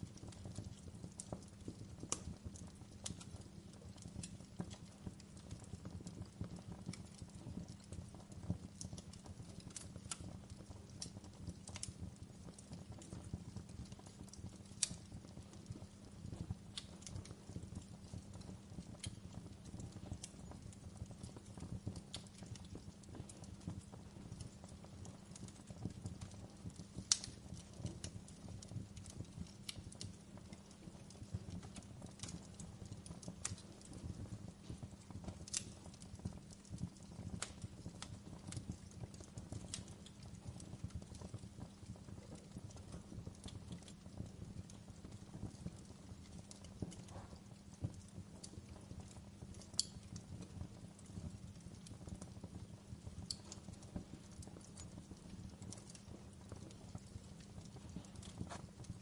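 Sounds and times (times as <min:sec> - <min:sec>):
fire burning rumble: 0:00.0 - 0:59.0
fire popping and snapping: 0:00.0 - 0:59.0.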